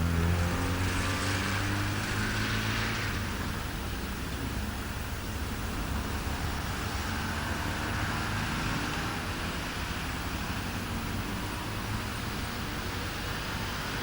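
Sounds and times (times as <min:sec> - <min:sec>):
diesel engine rumble: 0:00.0 - 0:14.0.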